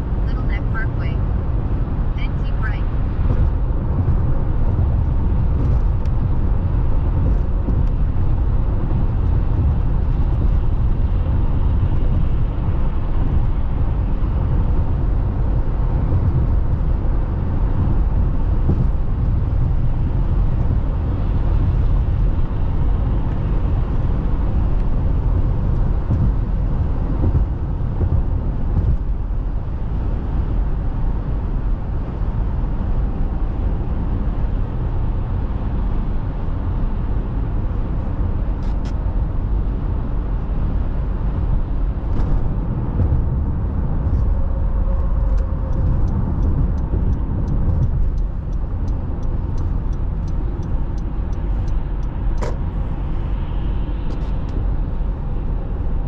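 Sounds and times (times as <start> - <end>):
vehicle road rumble: 0.0 - 56.0.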